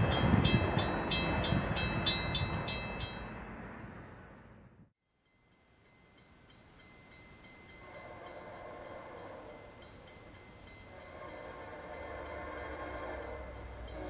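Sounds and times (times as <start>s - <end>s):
rail-side noise: 0.0s - 14.0s
train passing: 0.0s - 14.0s.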